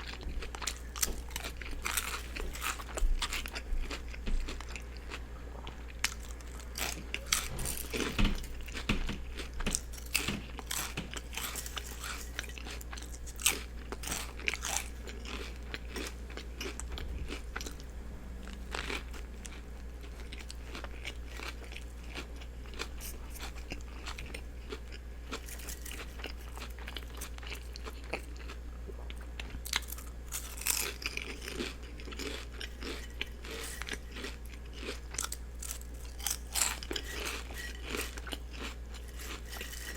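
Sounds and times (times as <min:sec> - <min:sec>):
chewing and crunching food: 0:00.0 - 0:39.9
steady low hum: 0:00.0 - 0:39.9.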